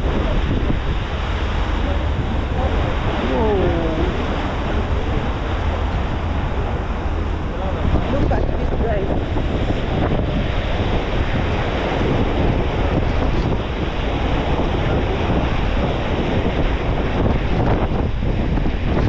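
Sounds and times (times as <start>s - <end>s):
waves washing against a ferry: 0.0s - 19.0s
wind blowing across microphone: 0.0s - 19.0s.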